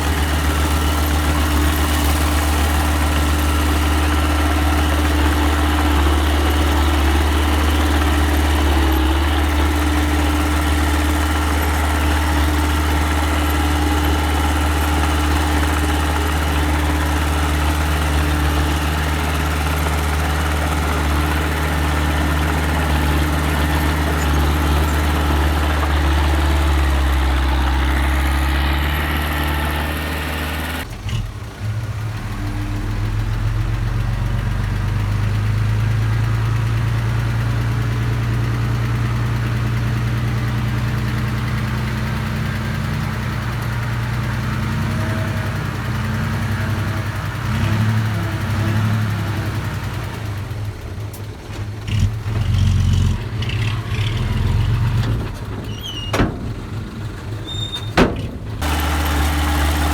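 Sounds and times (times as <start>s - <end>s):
small earthmoving machine engine: 0.0s - 59.9s.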